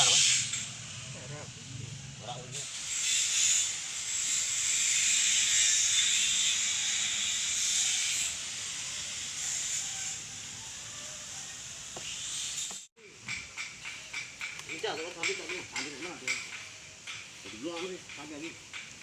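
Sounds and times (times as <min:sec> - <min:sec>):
spray paint hissing: 0:00.0 - 0:00.9, 0:02.5 - 0:19.0.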